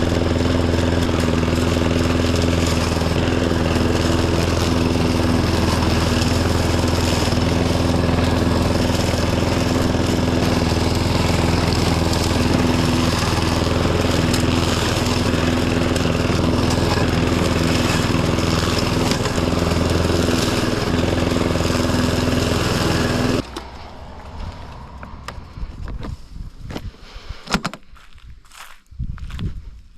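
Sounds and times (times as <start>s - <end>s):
riding mower engine running: 0.0s - 26.1s.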